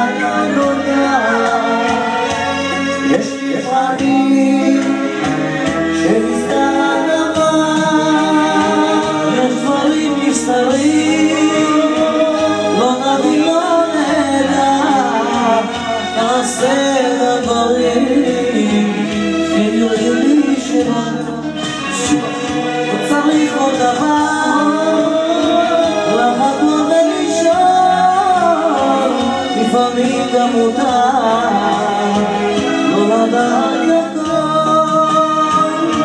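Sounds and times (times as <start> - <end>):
amplified instrumental backing: 0.0 - 36.0
man singing into a microphone: 0.0 - 36.0.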